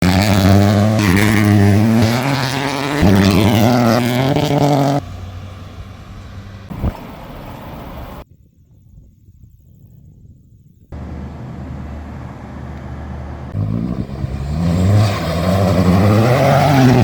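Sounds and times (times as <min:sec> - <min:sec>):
rally car engine shifting gears: 0:00.0 - 0:08.2, 0:11.0 - 0:17.0.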